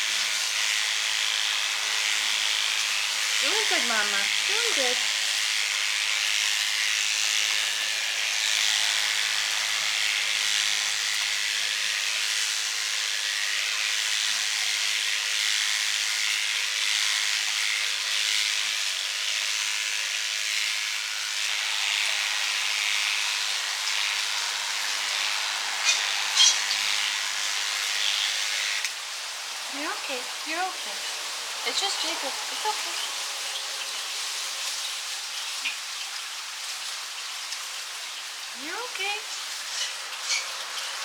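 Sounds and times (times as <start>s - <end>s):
electric hair clippers buzzing: 0.0s - 41.0s.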